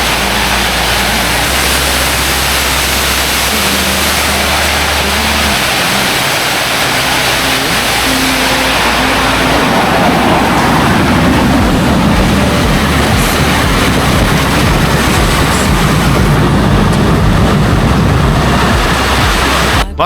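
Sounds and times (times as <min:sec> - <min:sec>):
turbine engine roaring: 0:00.0 - 0:20.0.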